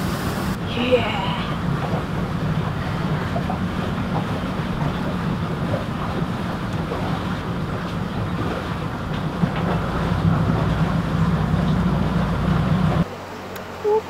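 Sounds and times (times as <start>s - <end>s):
boat engines droning: 0.0s - 14.0s.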